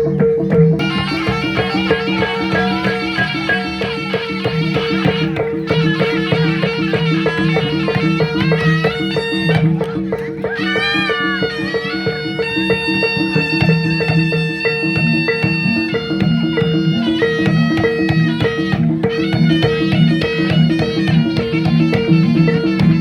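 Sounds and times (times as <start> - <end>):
gong-chimes and drums: 0.0 - 10.8, 11.5 - 23.0
wailing reed-pipe melody: 0.8 - 23.0.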